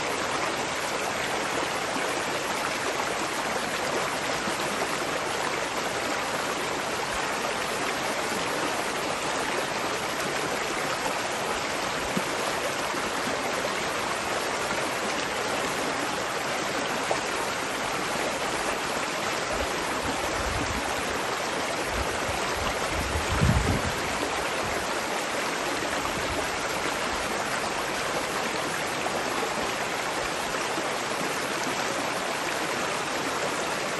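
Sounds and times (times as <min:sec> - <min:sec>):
water rushing: 0:00.0 - 0:33.9.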